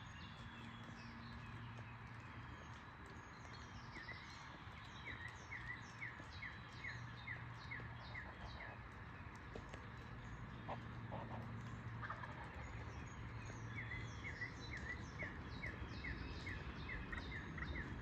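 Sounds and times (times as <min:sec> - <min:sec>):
faint steady background noise: 0:00.0 - 0:18.0.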